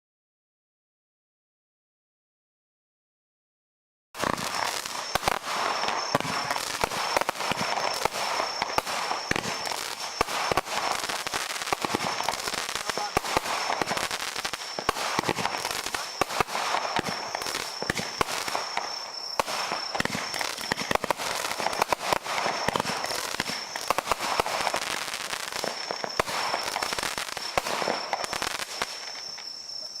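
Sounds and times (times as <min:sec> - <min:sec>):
firework crackles and pops: 0:04.2 - 0:30.0.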